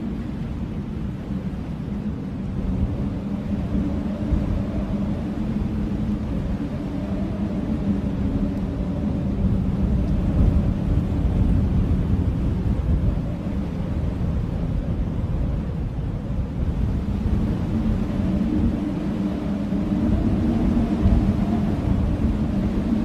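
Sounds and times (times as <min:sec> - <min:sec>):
blizzard wind howling: 0:00.0 - 0:23.0.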